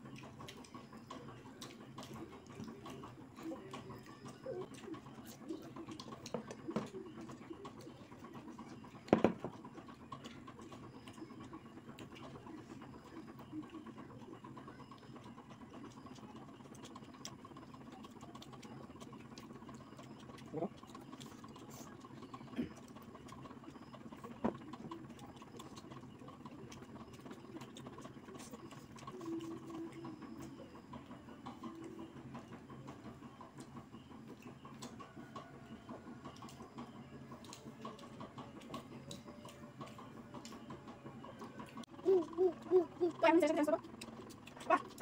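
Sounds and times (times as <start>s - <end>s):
chewing: 0.0s - 40.8s, 41.4s - 45.0s.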